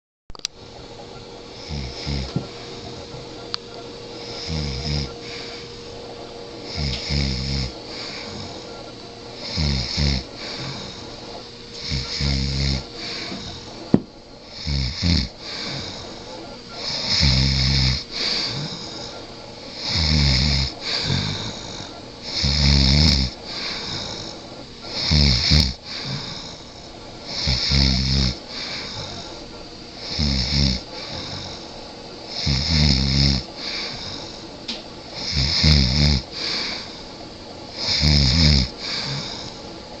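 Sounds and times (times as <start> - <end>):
person snoring: 1.5 - 3.0, 4.2 - 5.7, 6.7 - 8.7, 9.4 - 13.8, 14.4 - 29.4, 30.0 - 34.5, 35.2 - 37.1, 37.7 - 39.7.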